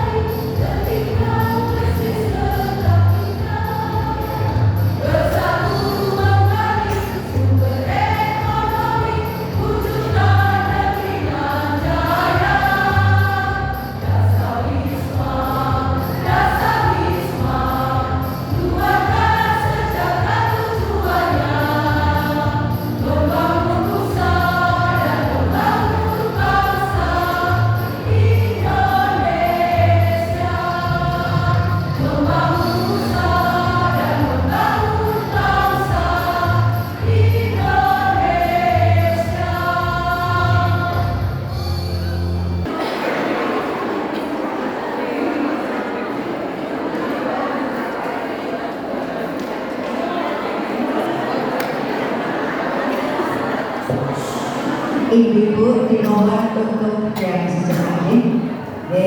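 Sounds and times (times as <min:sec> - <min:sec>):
choir singing: 0:00.0 - 0:55.5.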